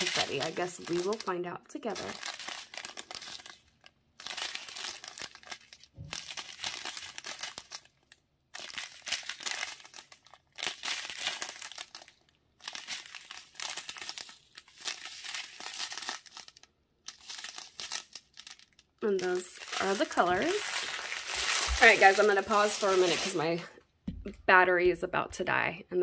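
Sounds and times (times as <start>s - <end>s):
thin plastic bags crinkling: 0.0s - 23.8s.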